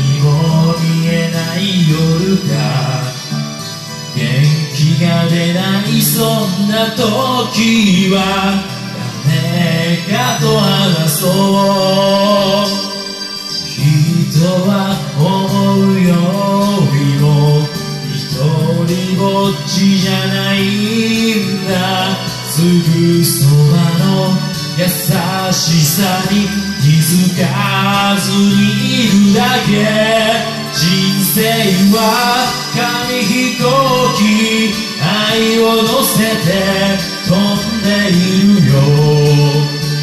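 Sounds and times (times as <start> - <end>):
karaoke backing track: 0.0 - 40.0
person singing pop ballad: 0.0 - 40.0.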